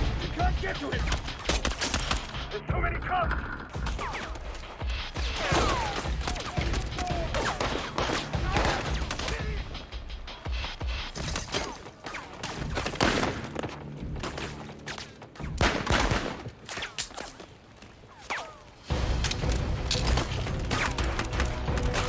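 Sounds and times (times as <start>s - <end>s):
dramatic orchestral score: 0.0s - 16.5s, 18.8s - 22.0s
gunshots: 0.1s - 2.6s, 3.7s - 9.8s, 11.0s - 17.4s, 18.2s - 22.0s.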